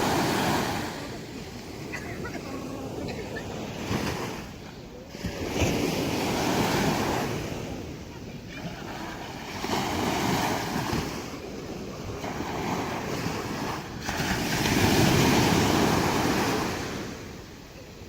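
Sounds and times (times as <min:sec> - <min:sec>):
ocean waves breaking on shore: 0:00.0 - 0:18.0.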